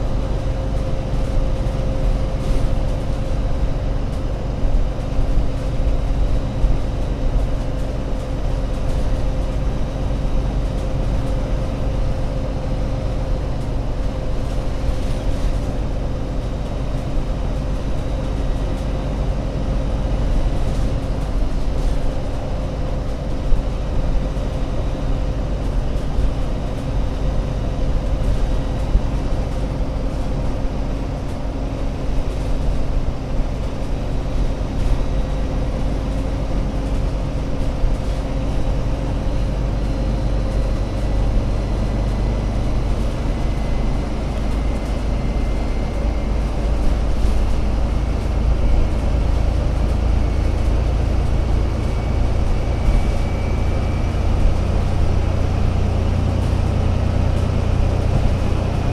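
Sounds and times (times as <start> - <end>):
bus engine rumbling: 0.0 - 58.9.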